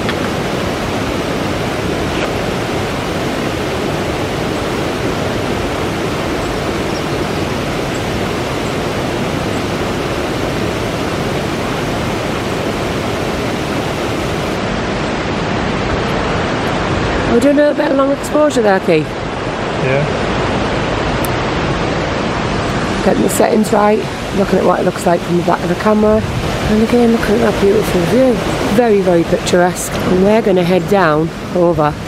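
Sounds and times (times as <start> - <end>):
stream rushing over rocks: 0.0 - 32.0.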